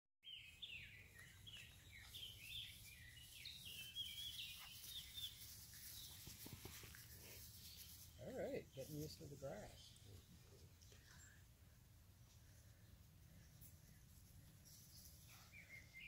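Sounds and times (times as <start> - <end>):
faint songbird chirping: 0.2 - 16.0.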